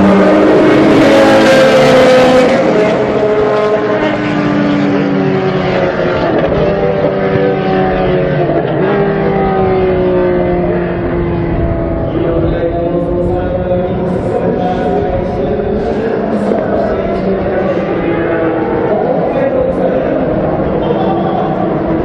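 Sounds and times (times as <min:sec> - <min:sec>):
race car engine passing: 0:00.0 - 0:22.0.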